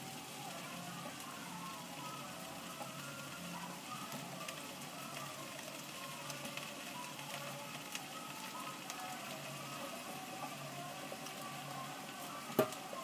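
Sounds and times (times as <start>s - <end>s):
noodles sizzling in a wok: 0.0s - 13.0s
rain hissing: 0.0s - 13.0s.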